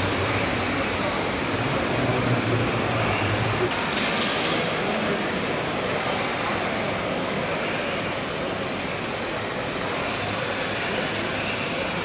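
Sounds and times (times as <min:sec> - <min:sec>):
exhibition hall din: 0:00.0 - 0:12.0.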